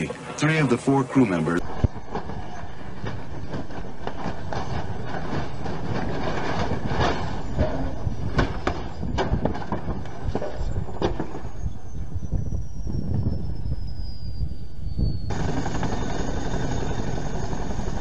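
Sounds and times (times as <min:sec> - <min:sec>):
helicopter rotor and engine rumble: 0:01.6 - 0:18.0
turbine whine falling in pitch: 0:01.6 - 0:18.0.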